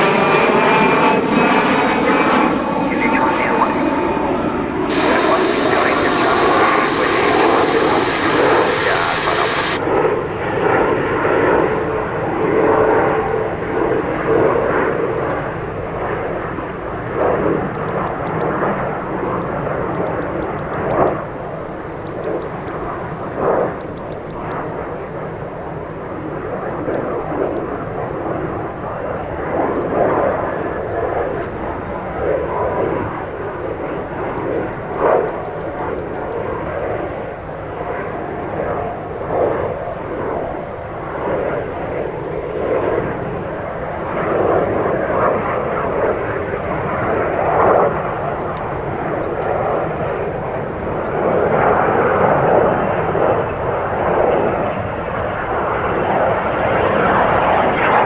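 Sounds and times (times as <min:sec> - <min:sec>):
jet flying past: 0:00.0 - 0:58.0.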